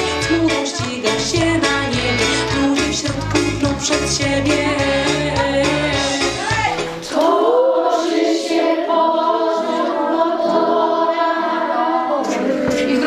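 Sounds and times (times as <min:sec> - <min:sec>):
woman singing: 0:00.0 - 0:08.6, 0:09.6 - 0:13.0
children singing unaccompanied: 0:00.0 - 0:13.0.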